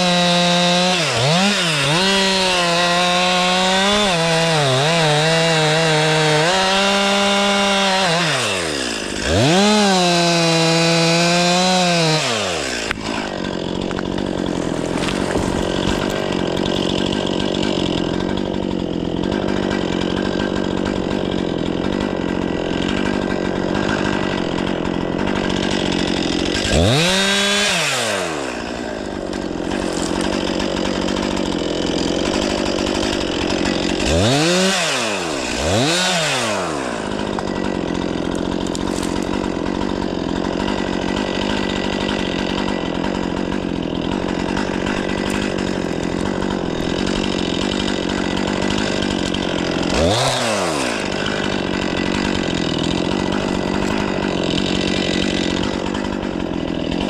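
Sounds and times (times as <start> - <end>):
chainsaw running: 0.0 - 57.0.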